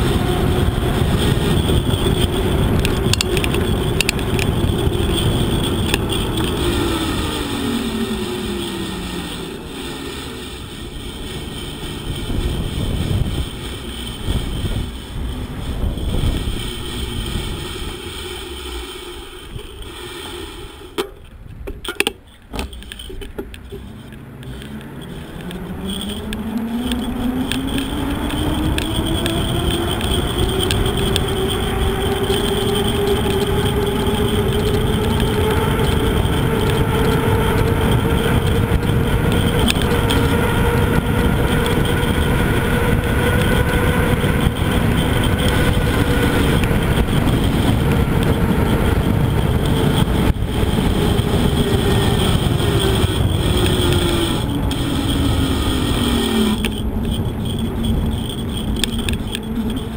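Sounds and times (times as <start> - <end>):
vehicle engine: 0.0 - 59.9
wind and road rush: 0.0 - 59.9.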